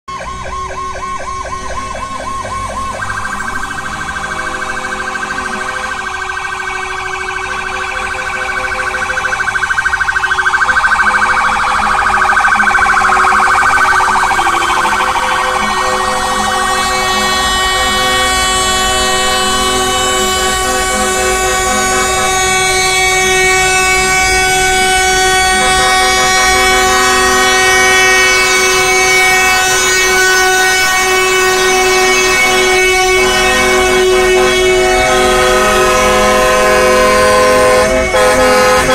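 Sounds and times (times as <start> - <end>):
electronic siren warbling: 0.1 - 38.9
truck air horn blasts: 3.8 - 9.5, 10.3 - 38.9.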